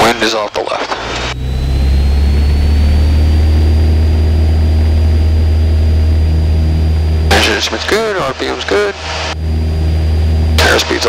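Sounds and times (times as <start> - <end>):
light aircraft engine droning: 0.9 - 11.0.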